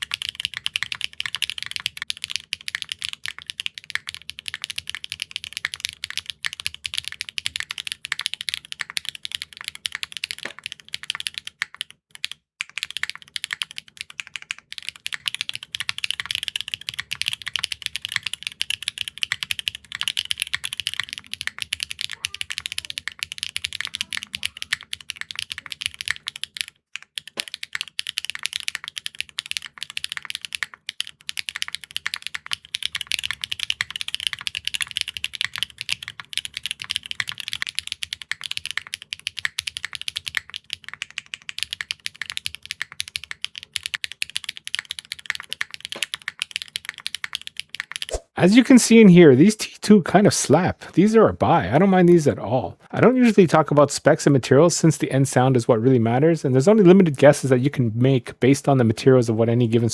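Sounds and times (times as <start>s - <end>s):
mechanical keyboard typing: 0.0s - 48.1s.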